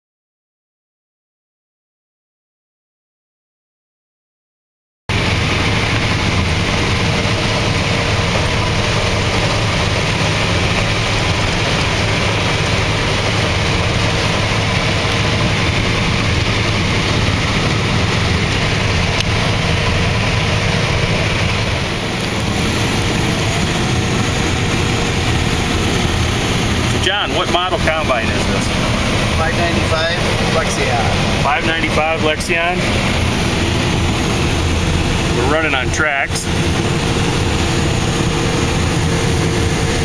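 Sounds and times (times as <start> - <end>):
combine harvester running: 5.1 - 40.0.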